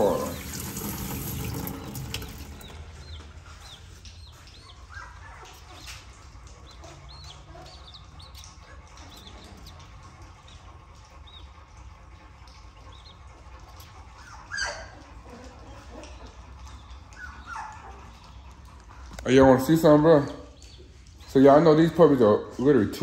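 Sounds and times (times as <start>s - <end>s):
chicks peeping: 0.0s - 11.5s, 12.4s - 22.3s.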